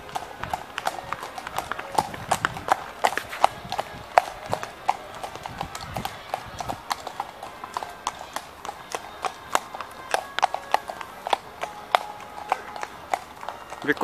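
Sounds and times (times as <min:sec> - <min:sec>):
hooves clip-clopping on pavement: 0:00.0 - 0:14.0.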